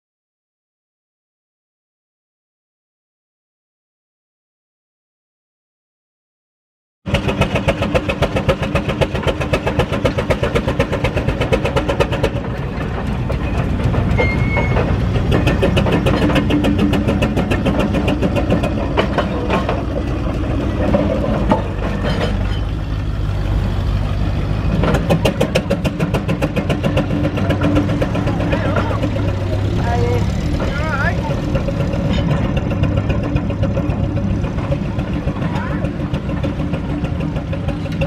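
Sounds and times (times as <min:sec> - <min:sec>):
steam roller exhaust beating: 0:07.1 - 0:38.0.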